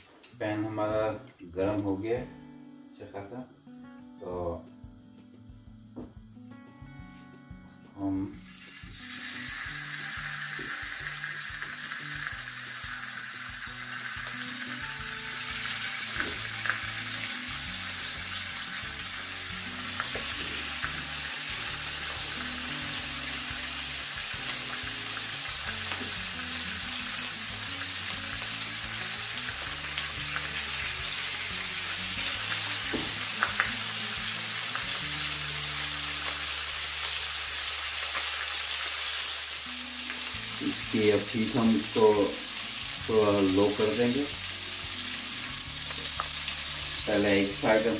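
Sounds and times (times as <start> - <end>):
meat sizzling on griddle pan: 8.3 - 47.9.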